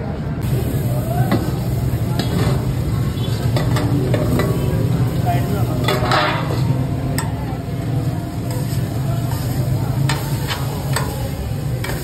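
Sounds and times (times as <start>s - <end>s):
meat sizzling on griddle: 0.4s - 12.0s.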